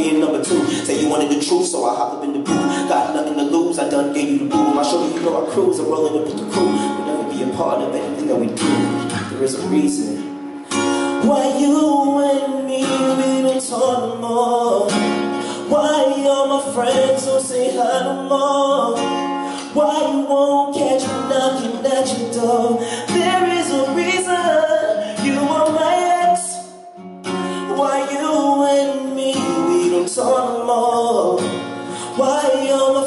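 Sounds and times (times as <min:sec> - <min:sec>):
man singing: 0:00.0 - 0:10.3, 0:11.1 - 0:26.9, 0:27.5 - 0:33.0
acoustic guitar: 0:00.0 - 0:33.0.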